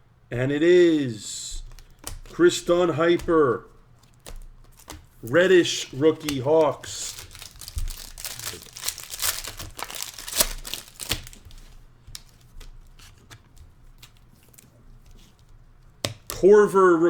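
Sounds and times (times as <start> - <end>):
foil wrapper crinkling: 1.5 - 15.5.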